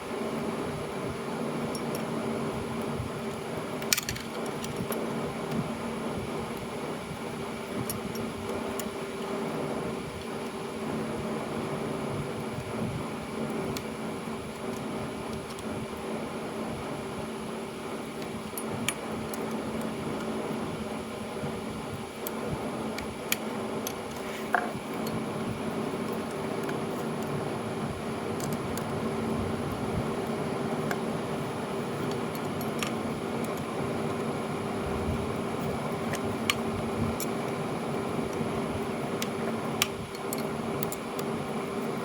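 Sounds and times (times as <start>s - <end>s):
fan hum: 0.0s - 42.0s.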